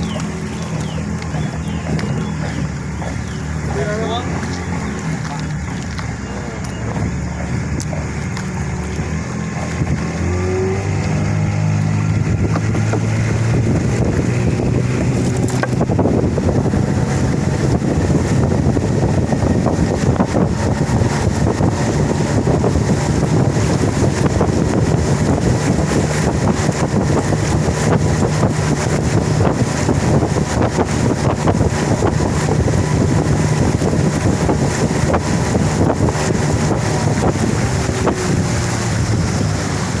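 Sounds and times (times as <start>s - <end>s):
boat motor running: 0.0s - 40.0s
rushing water: 0.0s - 40.0s
wind noise: 0.0s - 40.0s.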